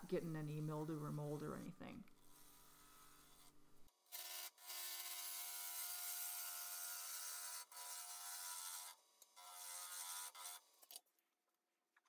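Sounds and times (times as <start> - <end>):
lathe tool cutting wood: 0.0 - 10.6.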